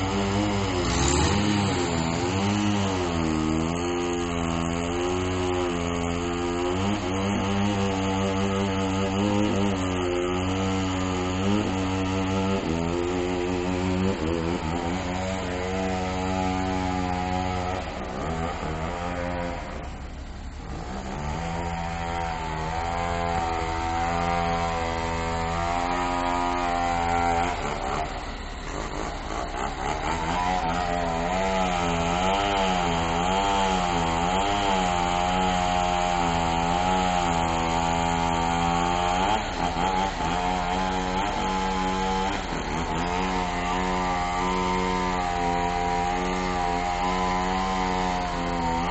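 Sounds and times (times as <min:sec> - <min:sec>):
bulldozer diesel engine under load: 0:00.0 - 0:48.9.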